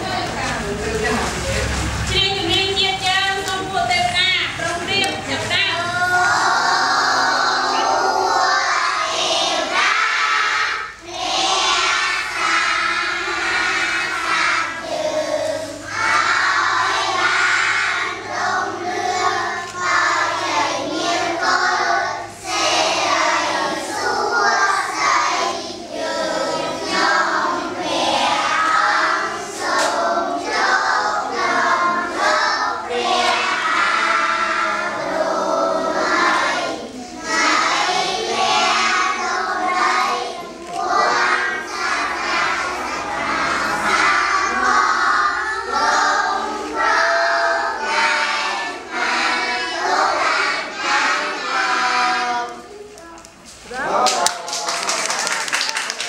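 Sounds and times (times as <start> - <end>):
children singing in unison: 5.4 - 53.0.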